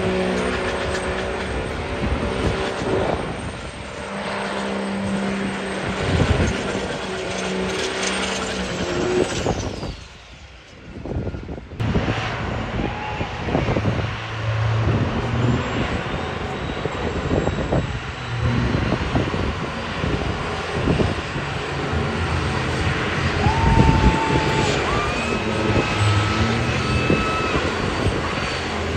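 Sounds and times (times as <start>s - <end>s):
diesel truck engine running hard: 0.0s - 9.3s, 11.8s - 28.9s
turbo whine: 0.0s - 28.9s.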